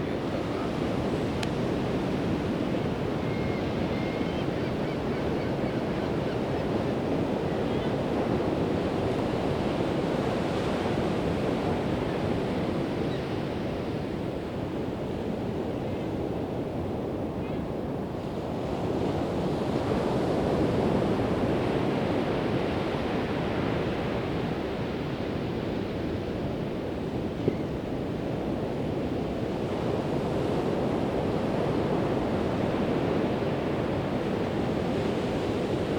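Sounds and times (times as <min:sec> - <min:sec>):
wind on the microphone: 0:00.0 - 0:35.9.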